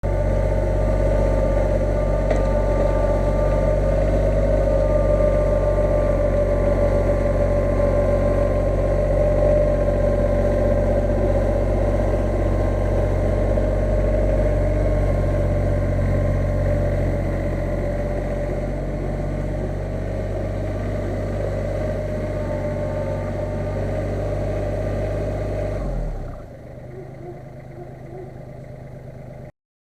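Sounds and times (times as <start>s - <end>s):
backhoe engine running: 0.0s - 29.5s.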